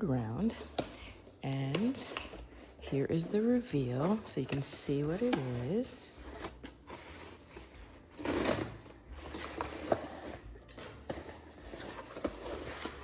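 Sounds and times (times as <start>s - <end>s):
box contents rustling: 0.4s - 13.0s.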